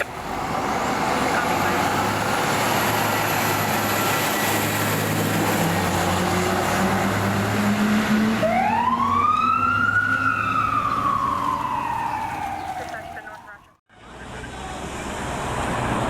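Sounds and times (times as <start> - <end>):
fire truck engine running: 0.0 - 15.2
road noise: 0.0 - 16.0.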